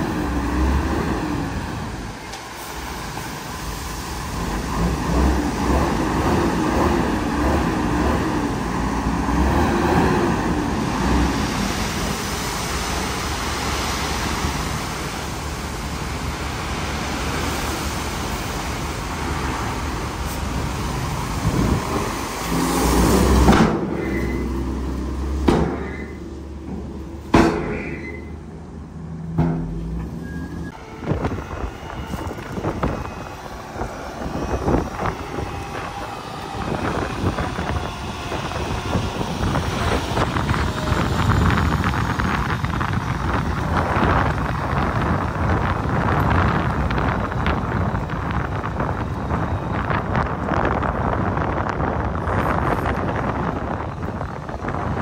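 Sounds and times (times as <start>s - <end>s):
diesel truck engine: 0.0s - 55.0s.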